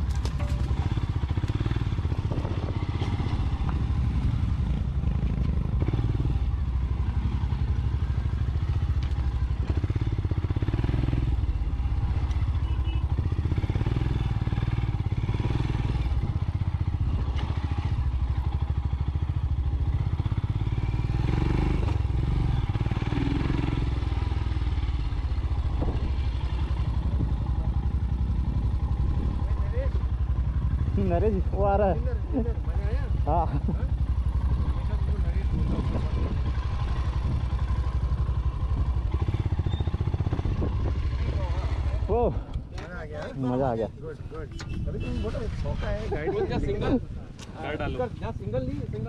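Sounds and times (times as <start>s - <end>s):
motorcycle engine running: 0.0s - 42.8s.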